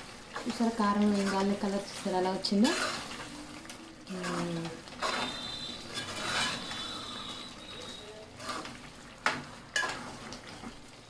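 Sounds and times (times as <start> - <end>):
food sizzling: 0.0 - 11.0
spoon scraping a pan: 0.4 - 10.8.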